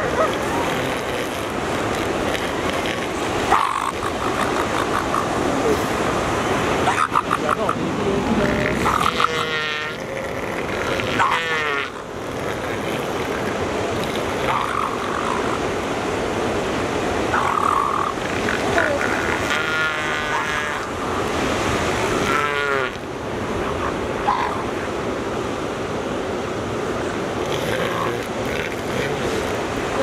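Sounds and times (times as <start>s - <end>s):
elephant seals croaking: 0.0s - 16.0s, 17.2s - 25.0s, 26.9s - 30.0s
surf: 0.0s - 30.0s.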